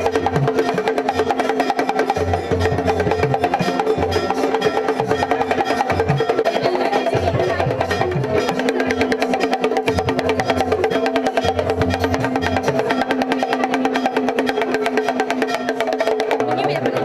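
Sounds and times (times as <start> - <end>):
drums in fast rhythm: 0.0 - 17.0.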